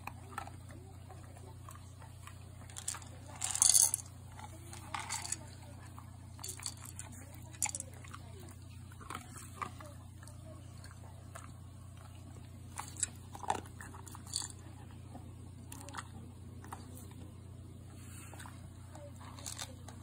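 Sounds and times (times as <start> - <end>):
dog crunching dry kibble: 0.0 - 17.3, 18.3 - 20.0.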